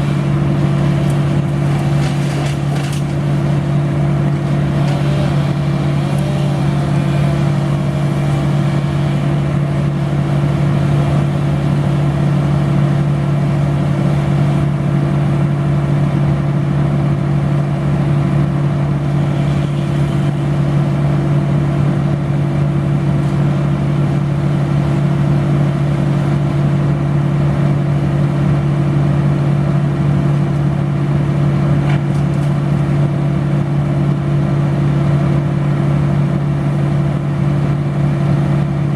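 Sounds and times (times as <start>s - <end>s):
large engine droning: 0.0s - 38.9s.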